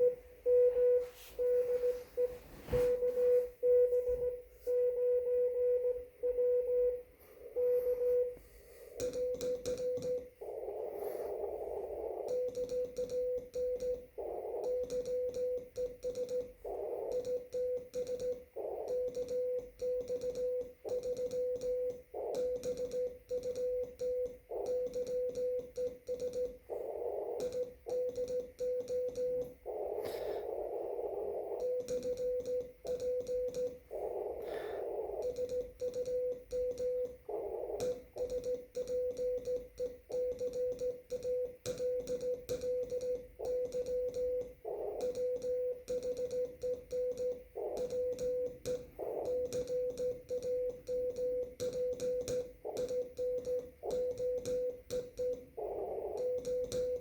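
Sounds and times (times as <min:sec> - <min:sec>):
morse code tone: 0:00.0 - 0:57.0
keying clicks: 0:09.0 - 0:30.0, 0:30.6 - 0:57.0.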